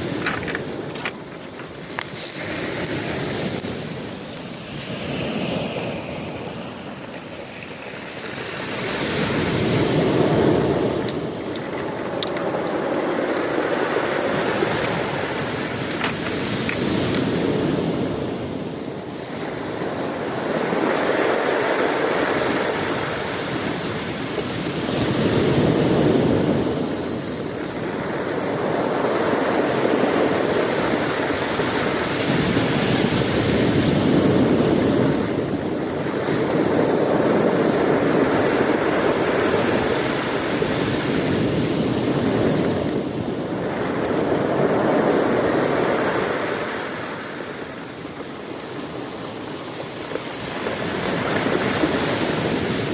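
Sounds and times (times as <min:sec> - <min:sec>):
waves breaking: 0:00.0 - 0:52.9.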